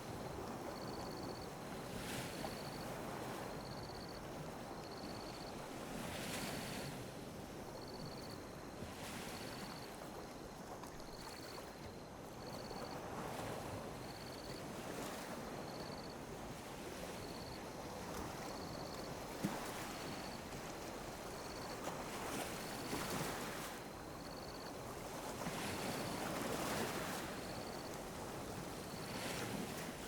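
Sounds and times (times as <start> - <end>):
sea waves lapping on beach: 0.0 - 30.0.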